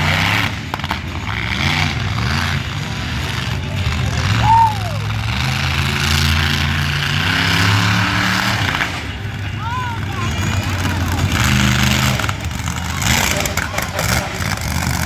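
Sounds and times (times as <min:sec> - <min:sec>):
truck engines at low revs: 0:00.0 - 0:15.0.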